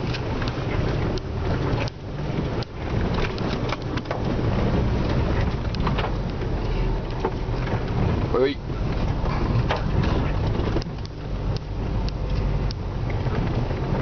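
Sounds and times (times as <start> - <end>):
engine and tyres droning: 0.0 - 14.0
vehicle knocks and rattles: 0.0 - 14.0.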